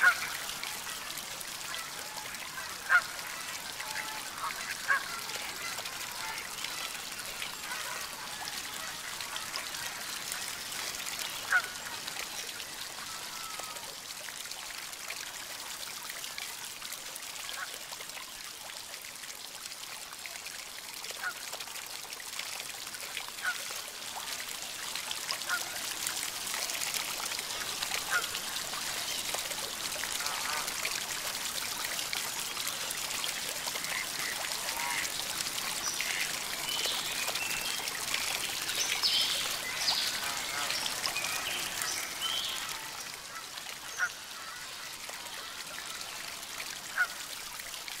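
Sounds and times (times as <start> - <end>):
fountain water splashing: 0.0 - 48.0.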